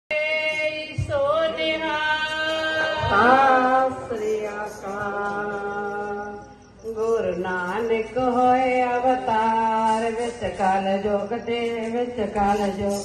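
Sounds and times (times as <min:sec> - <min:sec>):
person singing devotional hymn: 0:00.1 - 0:13.0.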